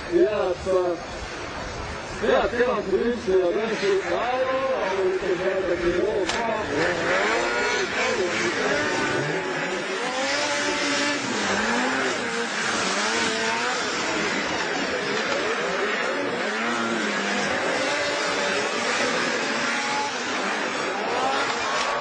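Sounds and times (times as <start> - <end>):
snowmobile engines revving: 0.0 - 22.0.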